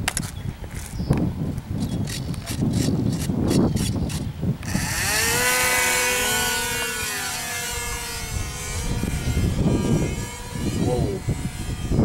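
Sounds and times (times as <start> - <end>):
wind buffeting microphone: 0.0 - 12.0
electric motor and propeller whine: 1.8 - 12.0.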